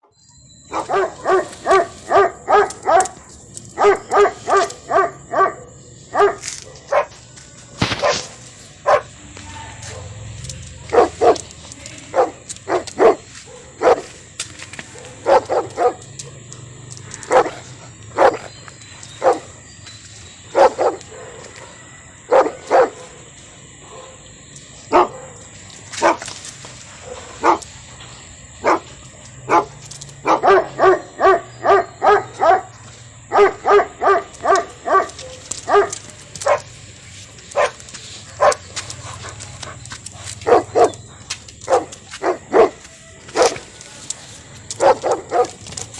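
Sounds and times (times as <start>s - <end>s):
dogs barking: 0.5s - 45.9s.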